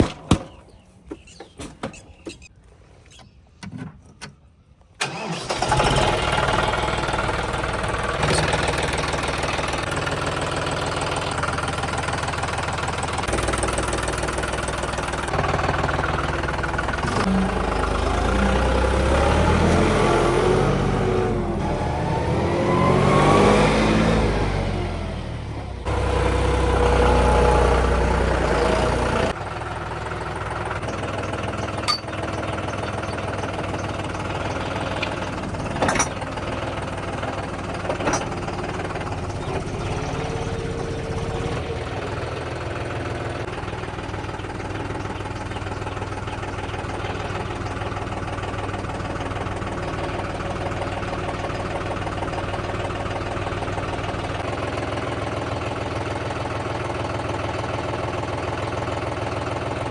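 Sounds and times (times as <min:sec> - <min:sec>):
tractor diesel engine under load: 0:05.0 - 0:59.9.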